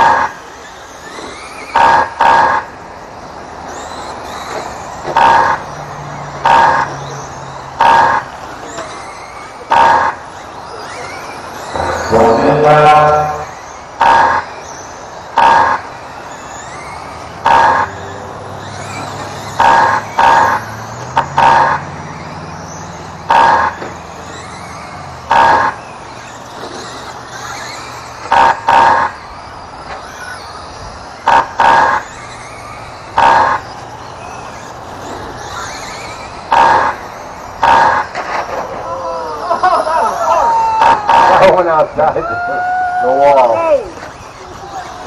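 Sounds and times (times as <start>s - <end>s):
toy trucks humming: 0.0s - 45.0s.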